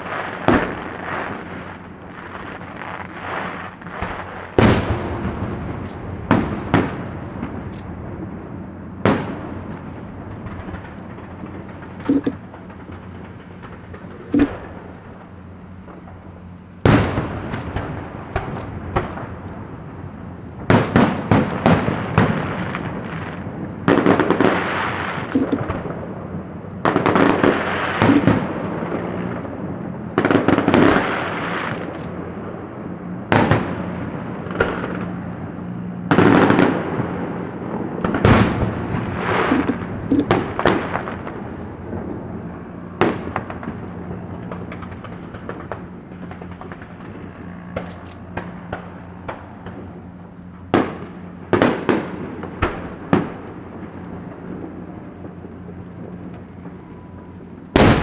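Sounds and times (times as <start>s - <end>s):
dense firework crackling: 0.0s - 58.0s
firework bangs: 0.0s - 58.0s.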